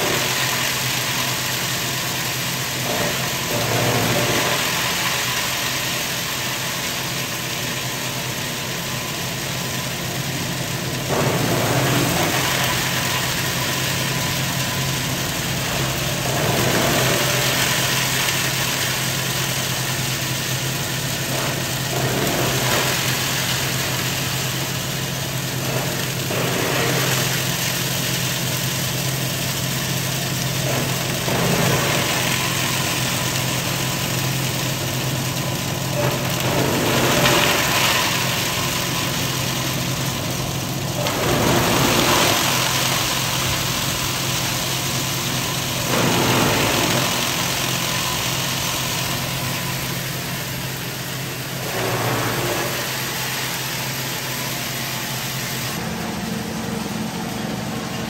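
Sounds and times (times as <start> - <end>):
machine cutting coconut husk: 0.0 - 58.0.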